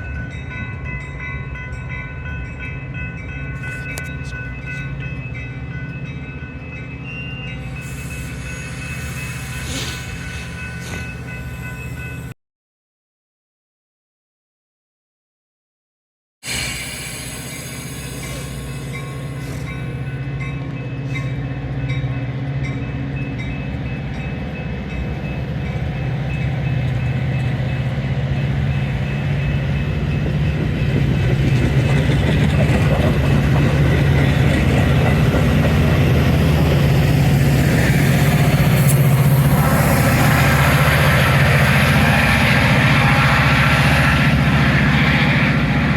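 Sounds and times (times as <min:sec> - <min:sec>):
diesel locomotive engine drone: 0:00.0 - 0:12.4, 0:16.4 - 0:45.9.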